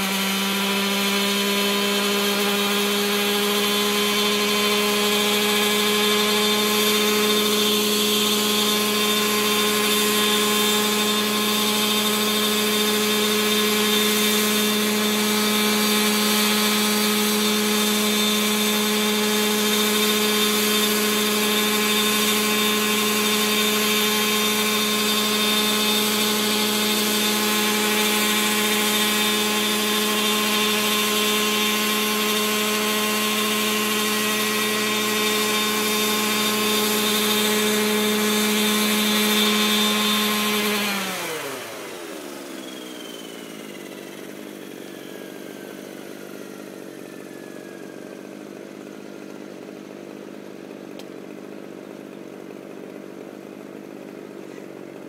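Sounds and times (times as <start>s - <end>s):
rc helicopter engine and rotor drone: 0.0s - 55.0s.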